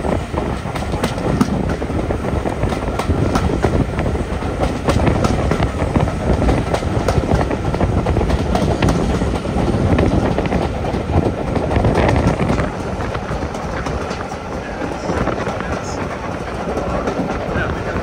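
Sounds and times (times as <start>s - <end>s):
train rumbling: 0.0s - 18.0s
wheels clicking on rails: 0.0s - 18.0s.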